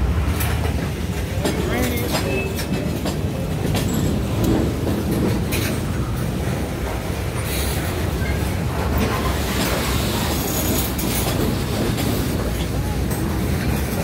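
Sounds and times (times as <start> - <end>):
train rumble: 0.0 - 14.0
wheels clicking over rail joints: 0.2 - 14.0.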